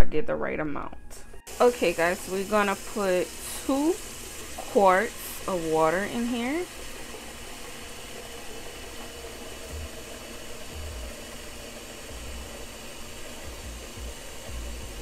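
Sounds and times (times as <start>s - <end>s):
tap water pouring into a pot: 1.5s - 15.0s.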